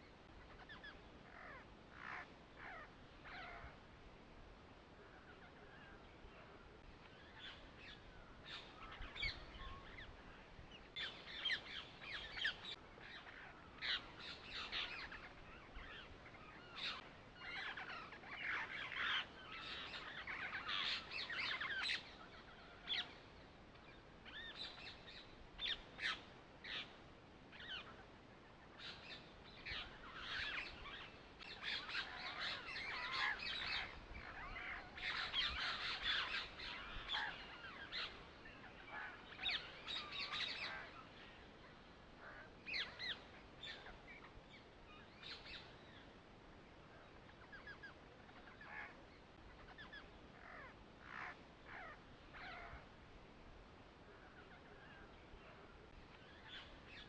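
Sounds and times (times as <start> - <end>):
birds chirping and calling: 0.0 - 3.8, 5.0 - 46.2, 46.8 - 52.9, 54.1 - 57.0.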